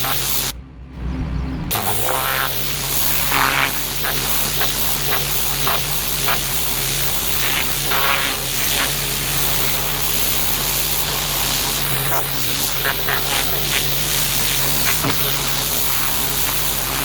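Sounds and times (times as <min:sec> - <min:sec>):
pressure washer jet hissing on paving: 0:00.0 - 0:00.5, 0:01.7 - 0:17.0
low machine hum: 0:00.0 - 0:17.0.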